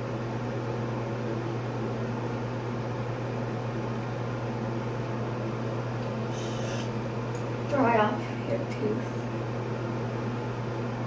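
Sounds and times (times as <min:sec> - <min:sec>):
ventilation fan running: 0:00.0 - 0:11.0.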